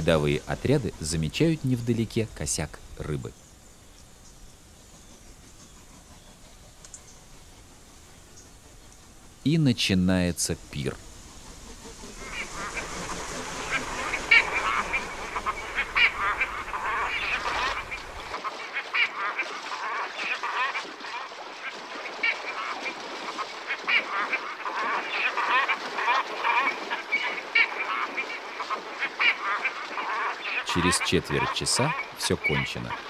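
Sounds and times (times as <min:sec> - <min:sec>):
waterbirds calling: 0:00.0 - 0:33.0.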